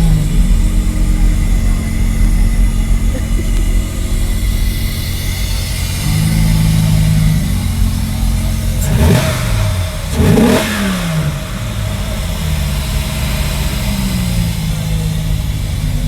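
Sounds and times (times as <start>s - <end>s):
truck engine idling and revving: 0.0s - 16.0s.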